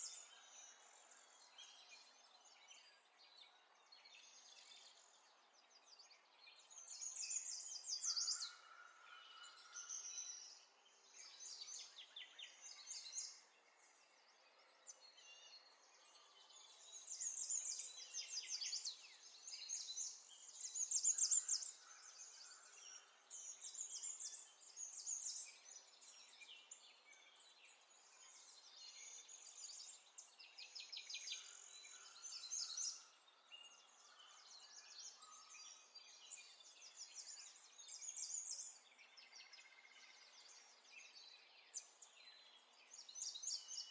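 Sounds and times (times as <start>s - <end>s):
small birds chirping and trilling: 0.0s - 43.9s.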